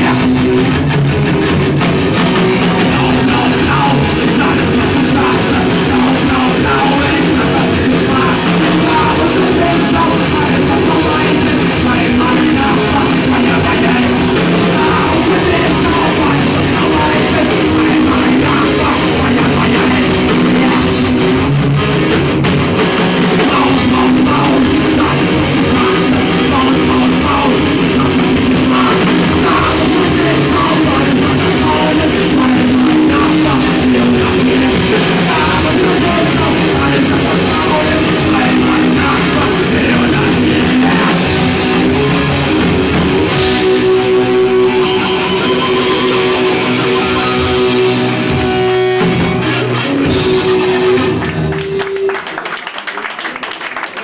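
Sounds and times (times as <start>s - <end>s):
distorted electric guitar: 0.0s - 52.8s
bass guitar: 0.0s - 53.0s
drum kit: 0.0s - 54.0s.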